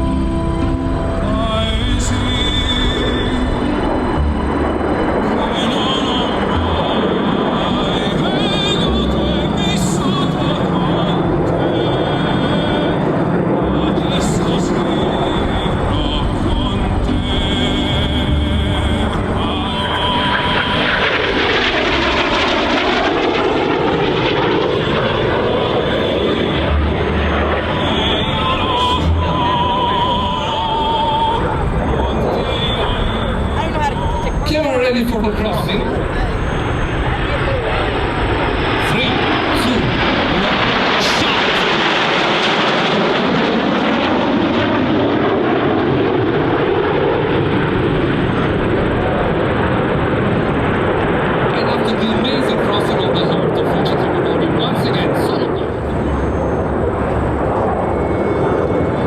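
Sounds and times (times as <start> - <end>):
jets passing overhead: 0.0 - 59.0.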